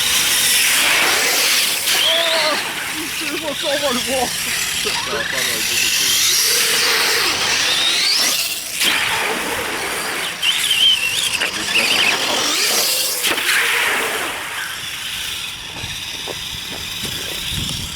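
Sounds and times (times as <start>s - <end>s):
toy truck motor whining: 0.0s - 17.9s.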